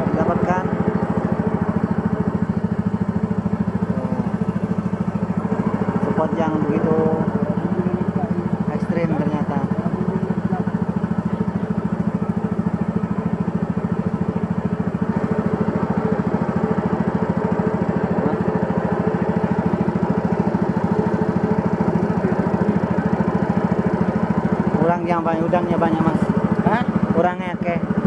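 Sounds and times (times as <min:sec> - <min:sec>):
small boat engine throbbing: 0:00.0 - 0:28.0.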